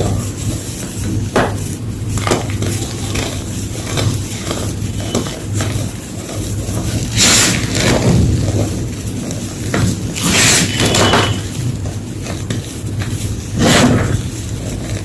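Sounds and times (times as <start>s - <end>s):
chalk crunching: 0.0s - 15.0s
steady low hum: 0.0s - 15.0s.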